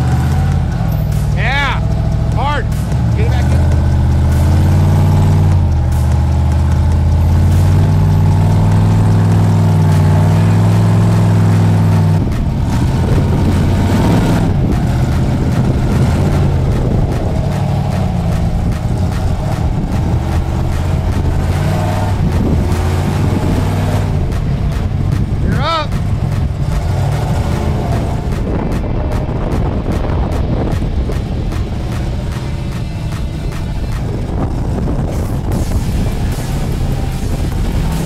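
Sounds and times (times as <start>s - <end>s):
off-road engine revving under load: 0.0s - 38.0s.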